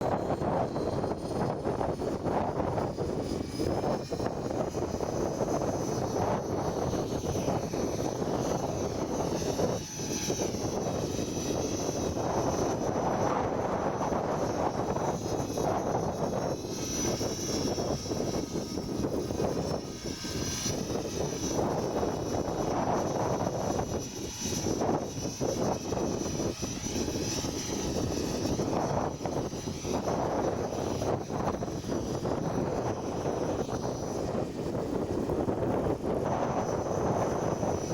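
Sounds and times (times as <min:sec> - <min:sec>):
helicopter rotor blades whooshing: 0:00.0 - 0:37.9
high motor and gear whine: 0:00.0 - 0:37.9.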